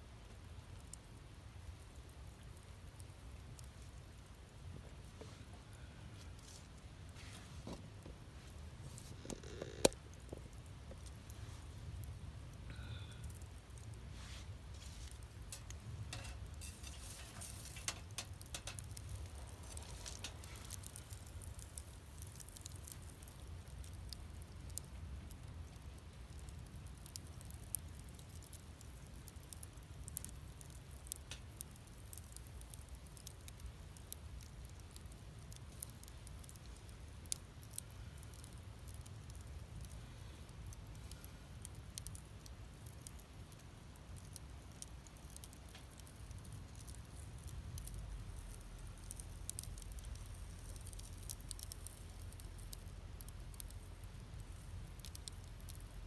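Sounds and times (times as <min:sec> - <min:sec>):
wood fire crackling and popping: 0:00.1 - 0:56.0.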